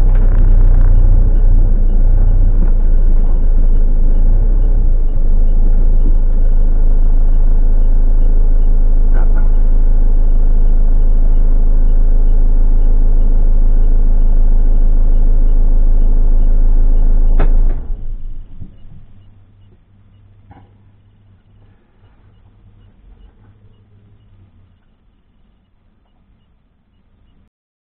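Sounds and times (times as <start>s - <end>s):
vehicle engine idling: 0.0s - 26.4s.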